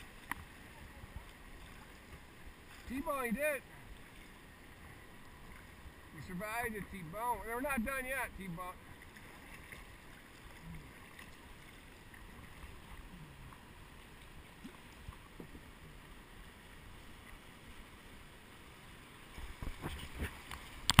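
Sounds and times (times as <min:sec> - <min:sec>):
paddle splashes: 0:00.0 - 0:21.0
river water flowing: 0:00.0 - 0:21.0.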